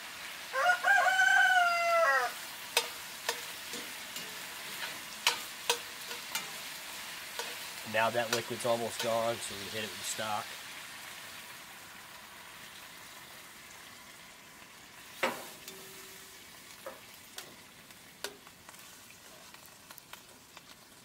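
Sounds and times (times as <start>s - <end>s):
stock sizzling in pot: 0.0s - 21.0s.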